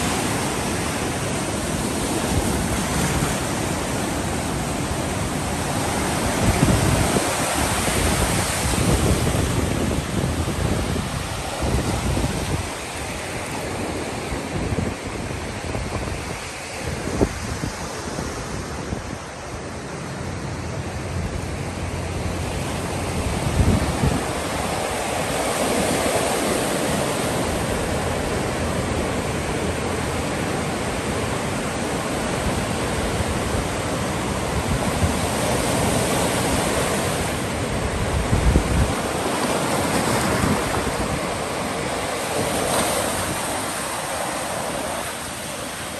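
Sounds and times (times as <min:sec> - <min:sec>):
waves breaking on beach: 0:00.0 - 0:45.9
wind buffeting microphone: 0:00.0 - 0:45.9.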